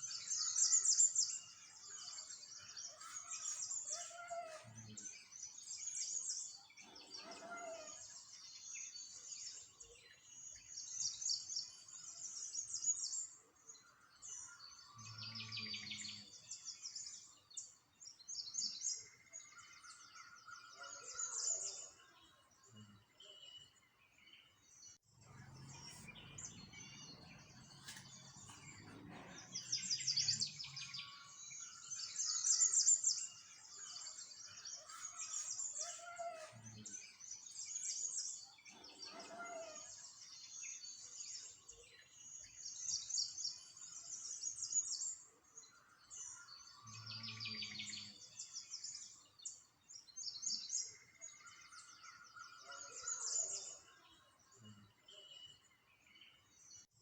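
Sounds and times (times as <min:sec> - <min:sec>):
small songbirds chirping and trilling: 0:00.0 - 0:57.0.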